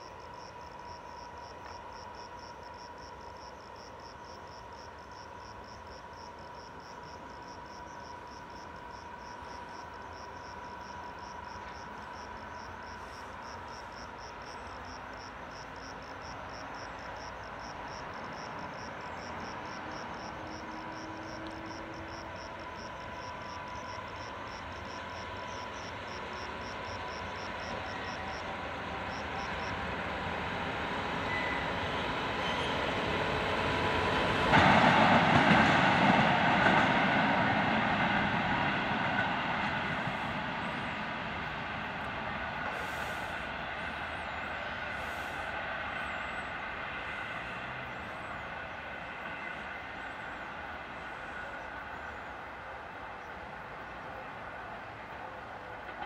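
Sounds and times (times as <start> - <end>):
electric locomotive hum and whine: 0.0 - 56.0.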